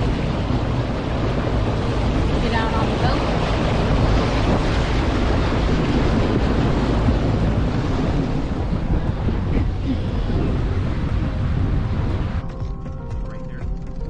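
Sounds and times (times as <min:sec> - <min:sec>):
rushing water: 0:00.0 - 0:12.5
wind buffeting microphone: 0:00.0 - 0:14.0.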